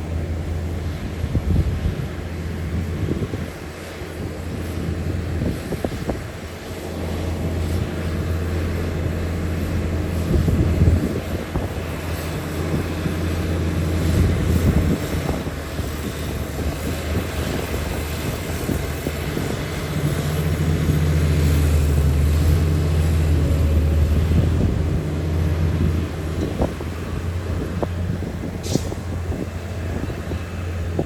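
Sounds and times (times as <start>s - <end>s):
diesel engine low drone: 0.0s - 31.0s.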